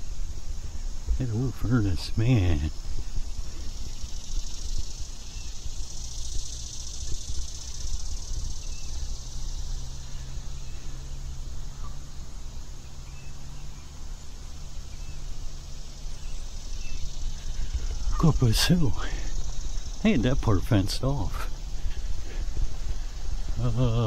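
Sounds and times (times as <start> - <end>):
faint chirps: 0.0 - 24.0
insects chorus: 0.0 - 24.0.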